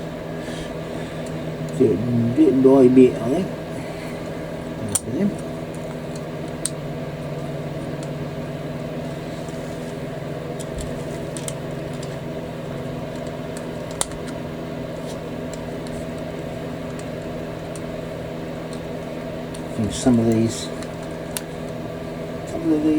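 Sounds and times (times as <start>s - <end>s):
electrical hum: 0.0s - 22.9s.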